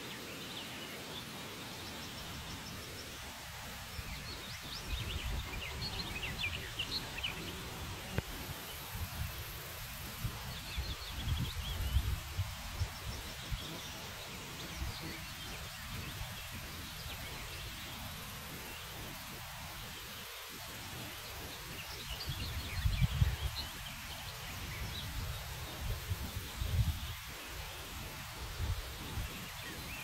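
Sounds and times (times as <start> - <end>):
outdoor air hiss: 0.0 - 30.0.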